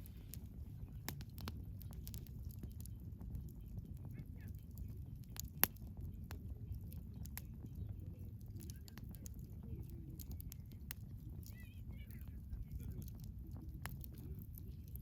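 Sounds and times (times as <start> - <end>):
campfire crackles and pops: 0.0 - 15.0
rush of flames: 0.0 - 15.0.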